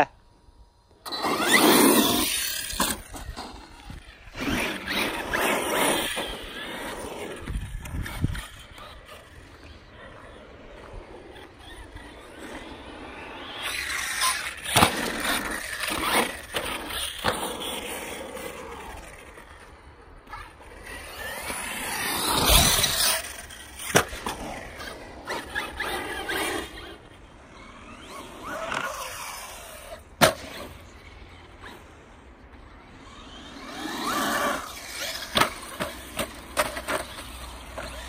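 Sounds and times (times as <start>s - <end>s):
rc truck motors whining: 0.0s - 38.0s.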